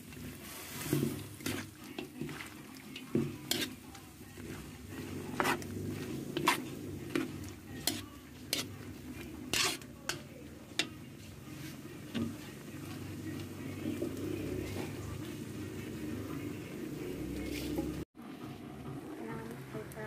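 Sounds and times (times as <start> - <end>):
food sizzling: 0.0 - 20.0.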